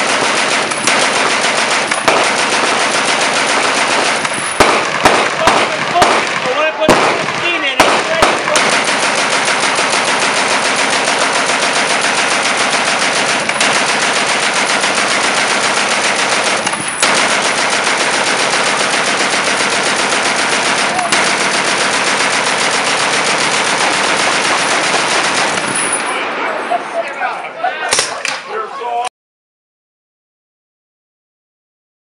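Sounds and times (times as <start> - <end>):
machine gun firing: 0.0 - 26.4.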